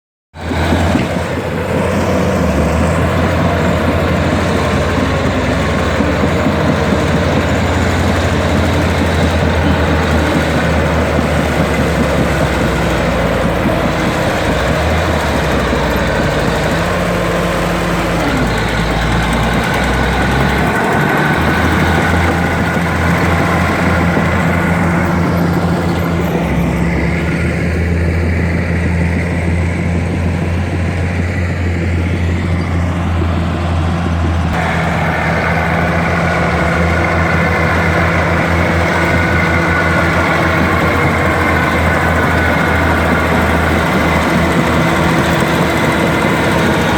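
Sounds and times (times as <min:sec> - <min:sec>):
bulldozer diesel engine running: 0:00.3 - 0:46.9.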